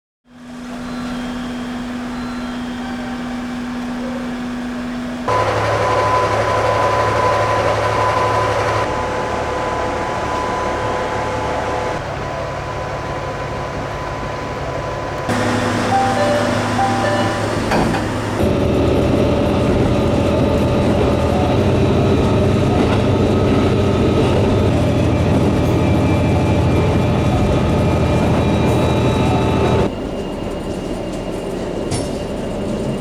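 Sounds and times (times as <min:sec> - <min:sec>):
railcar engine hum and whine: 0:00.3 - 0:33.0
train ride rumble: 0:00.4 - 0:33.0.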